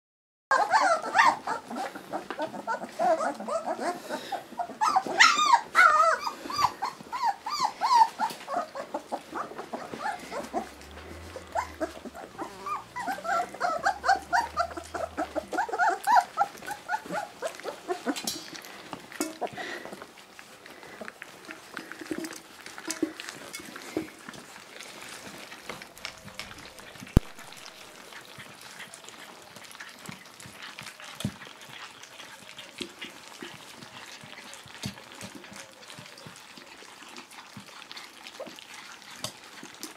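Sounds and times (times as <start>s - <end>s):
puppies whimpering and squealing: 0.5s - 39.9s.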